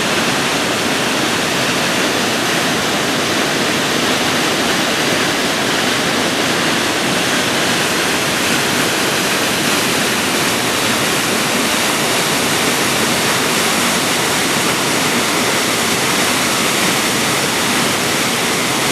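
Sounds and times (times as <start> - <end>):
waterfall crashing: 0.0 - 18.9.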